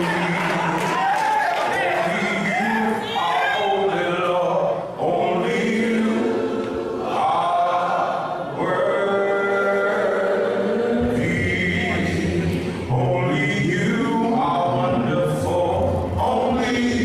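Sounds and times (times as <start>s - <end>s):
choir singing a cappella: 1.7s - 17.0s.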